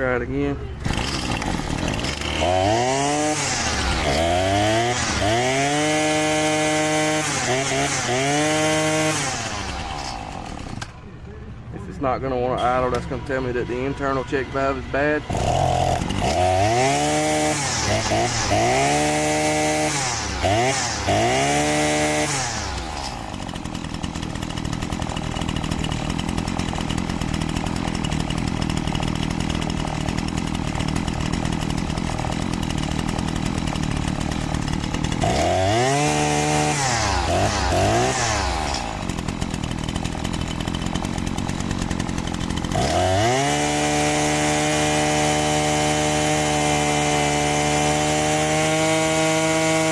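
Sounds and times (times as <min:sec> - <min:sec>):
string trimmer engine revving: 0:00.0 - 0:49.9.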